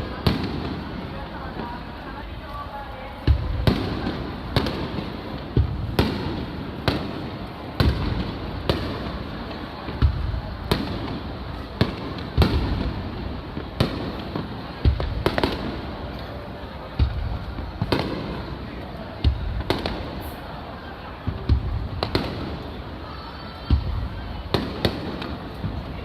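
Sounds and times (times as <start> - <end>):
firework crackle and rumble: 0.0 - 26.0.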